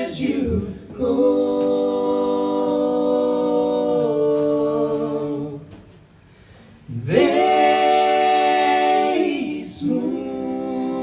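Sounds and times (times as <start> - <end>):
voices singing a cappella harmony: 0.0 - 6.1, 6.8 - 11.0.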